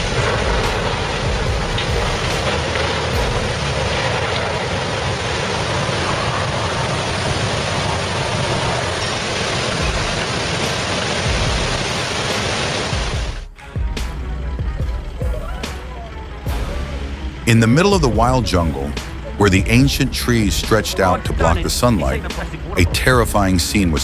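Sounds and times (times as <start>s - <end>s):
flood water rushing: 0.0s - 24.0s.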